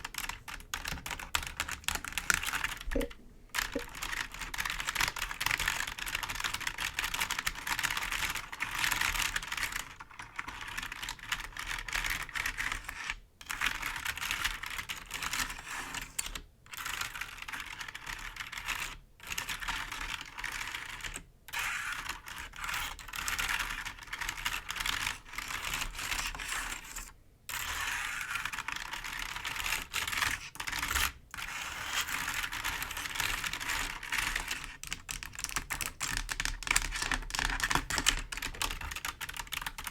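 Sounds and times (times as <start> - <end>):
typing on computer keyboard: 0.0 - 12.8, 13.4 - 15.5, 16.2 - 27.0, 27.6 - 31.2, 32.0 - 39.9.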